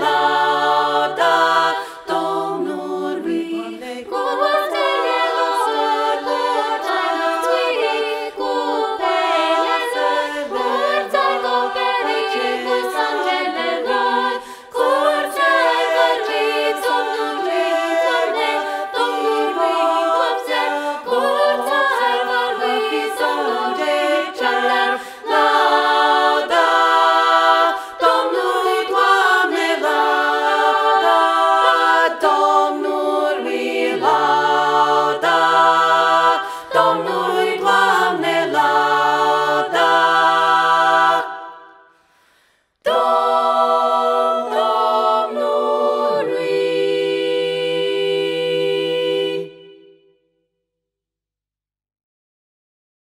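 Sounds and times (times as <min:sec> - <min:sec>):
women's choir singing a cappella: 0:00.0 - 0:42.2, 0:42.8 - 0:50.2.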